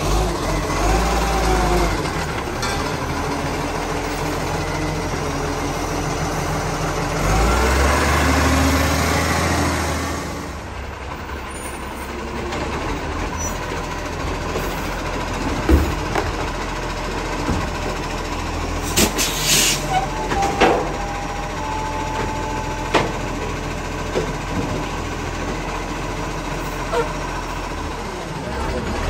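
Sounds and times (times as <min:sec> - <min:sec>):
garbage truck diesel engine: 0:00.0 - 0:29.0.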